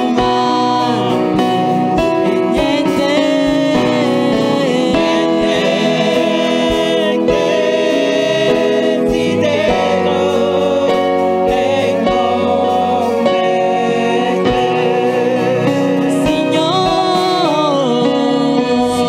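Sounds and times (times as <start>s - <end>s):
band playing steady beat: 0.0s - 19.0s
voices singing together: 0.0s - 19.0s.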